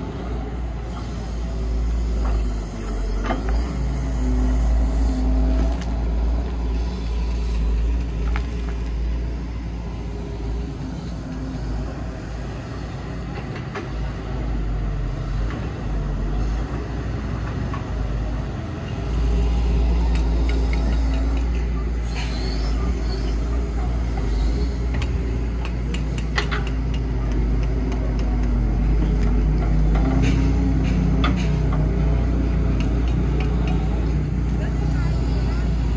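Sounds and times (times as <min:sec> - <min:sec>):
diesel machinery engine rumble: 0:00.0 - 0:35.9.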